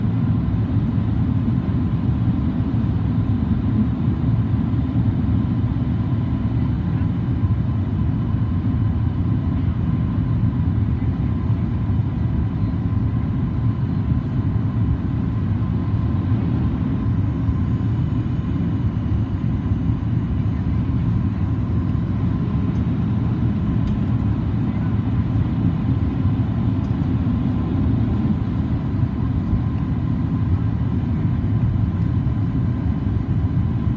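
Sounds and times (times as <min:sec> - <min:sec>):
airplane cabin rumble: 0:00.0 - 0:33.9.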